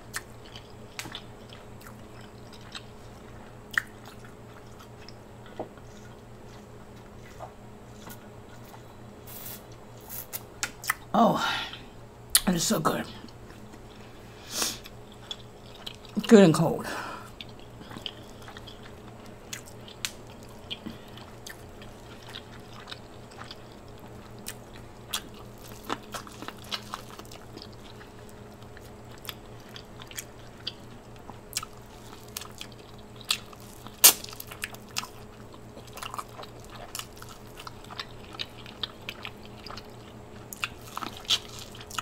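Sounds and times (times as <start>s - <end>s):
chewing corn on the cob: 0.0s - 9.0s, 14.8s - 16.4s, 17.3s - 42.0s.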